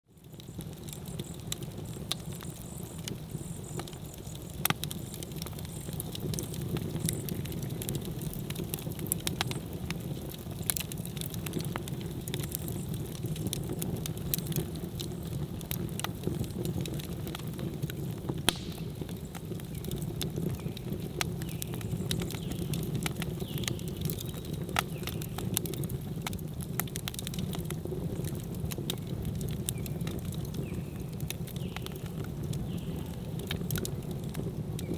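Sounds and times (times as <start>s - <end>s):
fire crackles and pops: 0.1s - 34.9s
campfire flames rushing: 0.2s - 34.9s.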